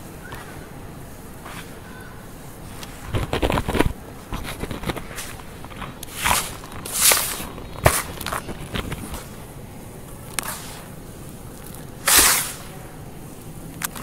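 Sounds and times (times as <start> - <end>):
charcoal mix crunching: 0.0 - 14.0
small crackles: 0.1 - 14.0.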